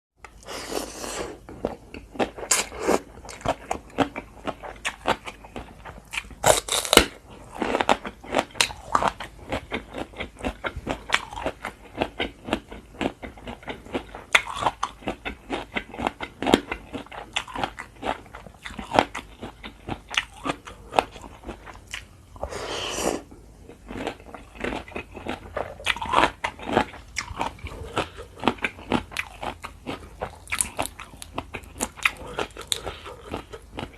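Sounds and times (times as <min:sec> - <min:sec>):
crunchy food being chewed: 0:00.2 - 0:33.9.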